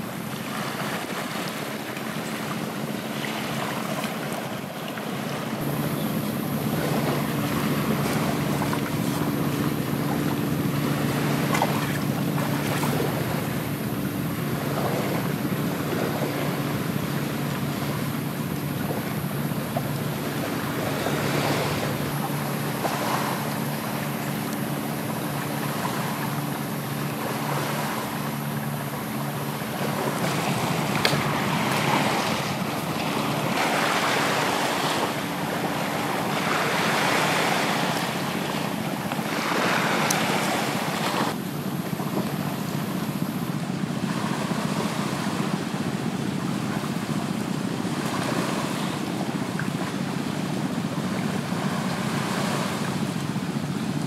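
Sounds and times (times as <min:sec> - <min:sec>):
surf washing onto beach: 0:00.0 - 0:54.0
wind: 0:00.0 - 0:54.0
low steady hum: 0:00.1 - 0:54.0.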